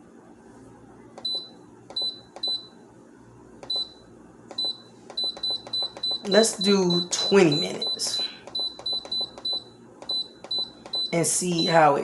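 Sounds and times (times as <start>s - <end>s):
control panel beeps: 1.2s - 2.8s, 3.6s - 11.8s.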